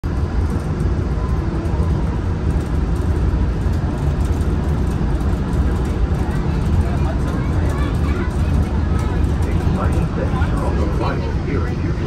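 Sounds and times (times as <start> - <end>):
monorail train rumbling: 0.0 - 12.0.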